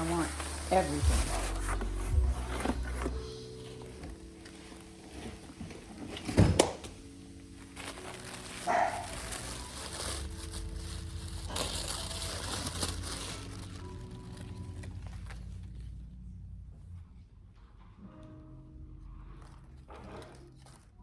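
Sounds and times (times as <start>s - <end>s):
clothes and packaging rustling: 0.0s - 16.3s, 19.1s - 21.0s
faint background music: 0.0s - 21.0s.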